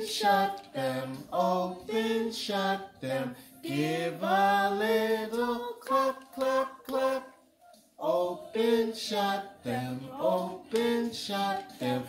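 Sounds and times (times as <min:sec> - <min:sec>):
person singing: 0:00.0 - 0:07.4, 0:08.0 - 0:12.0.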